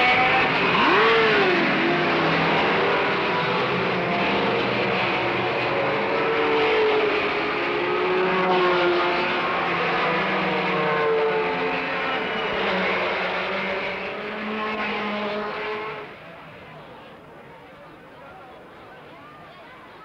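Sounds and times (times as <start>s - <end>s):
racing cars accelerating past: 0.0s - 16.6s.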